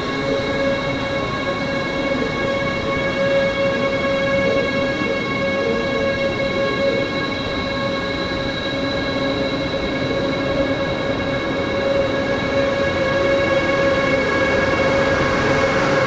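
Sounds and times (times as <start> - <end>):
train whine: 0.0 - 16.0.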